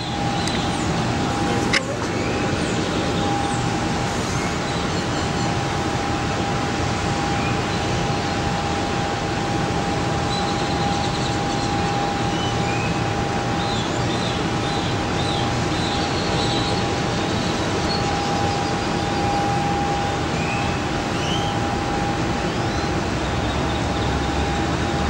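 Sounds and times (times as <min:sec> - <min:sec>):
constant high hum: 0:00.0 - 0:25.0
rumbling hiss: 0:00.0 - 0:25.0.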